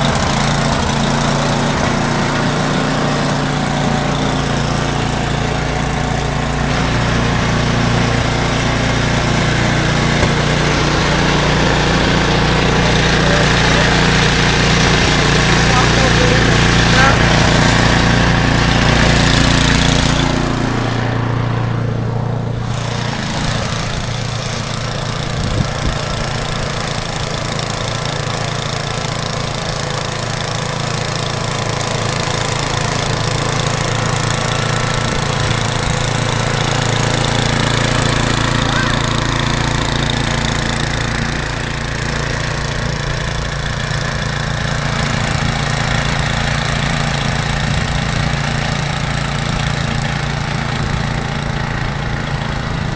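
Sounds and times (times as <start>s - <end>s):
engine running: 0.0s - 52.9s.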